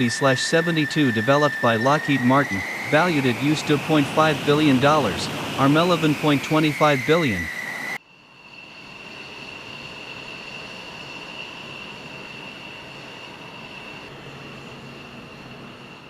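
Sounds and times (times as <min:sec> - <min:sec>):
jet engine high-pitched whine: 0:00.0 - 0:16.0.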